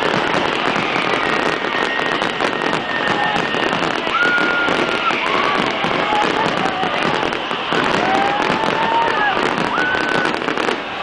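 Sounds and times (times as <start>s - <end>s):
fireworks bangs and crackles: 0.0s - 11.0s
high firework whistles: 0.0s - 11.0s.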